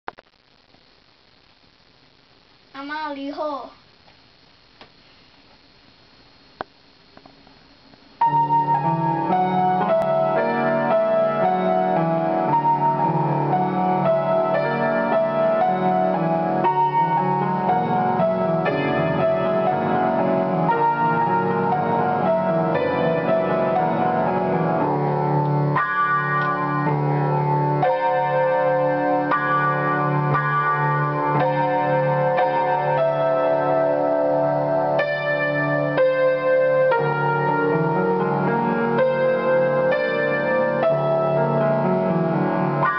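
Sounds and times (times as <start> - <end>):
piano duet waltz: 8.2 - 42.9.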